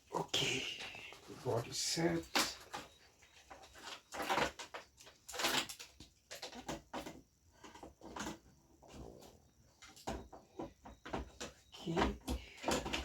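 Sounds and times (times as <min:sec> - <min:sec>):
rustling and knocking of parts: 0:00.2 - 0:13.0.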